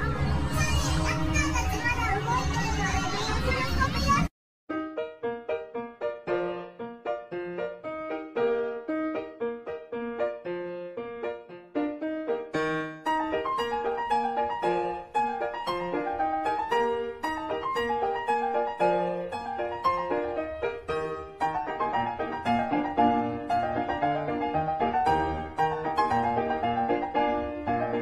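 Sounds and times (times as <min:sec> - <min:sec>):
background piano music: 0:04.7 - 0:28.0.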